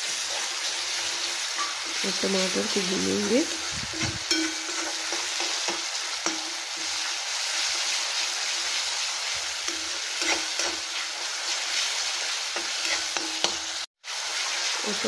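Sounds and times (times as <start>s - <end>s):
onions sizzling in hot oil: 0.0s - 15.0s
spatula scraping metal pan: 0.3s - 7.9s, 8.5s - 13.8s.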